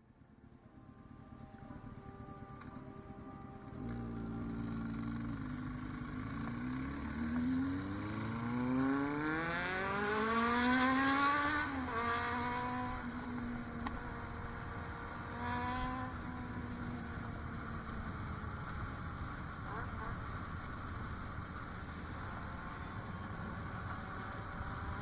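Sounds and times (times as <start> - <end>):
motorcycle engine accelerating: 0.3 - 25.0.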